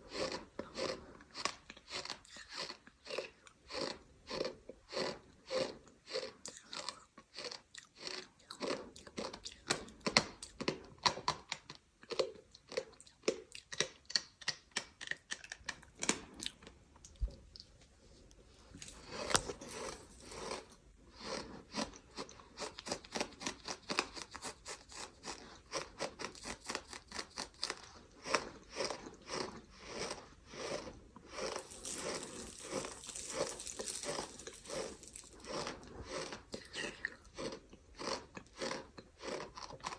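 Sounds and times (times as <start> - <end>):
person chewing gritty food: 0.0 - 33.4, 34.0 - 39.9.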